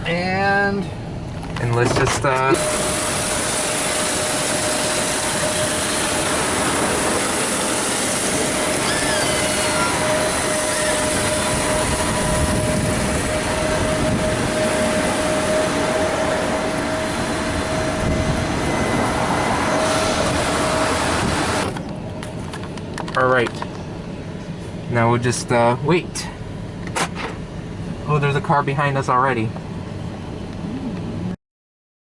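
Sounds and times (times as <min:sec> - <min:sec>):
car wash machinery running: 0:00.0 - 0:31.3.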